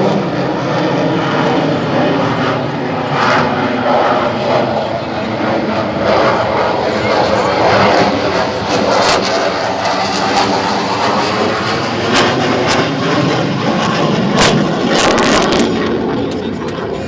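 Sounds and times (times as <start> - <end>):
jet engine roaring: 0.0 - 17.0.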